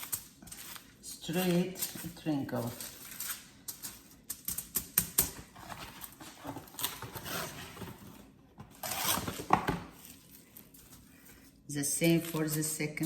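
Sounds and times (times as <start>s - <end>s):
aluminium foil crinkling: 0.0s - 7.1s, 9.4s - 13.0s.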